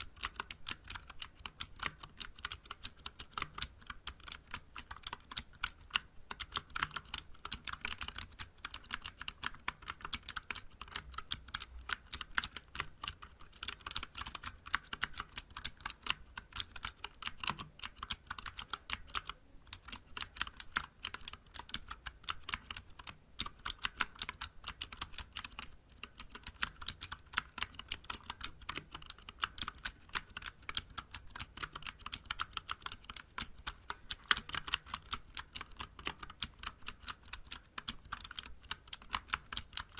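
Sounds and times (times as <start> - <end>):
clicky mechanical keyboard typing: 0.0 - 39.9.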